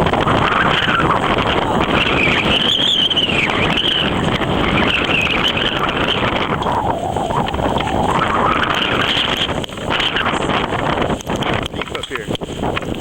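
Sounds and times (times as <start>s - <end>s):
blizzard wind buffeting microphone: 0.0s - 13.0s.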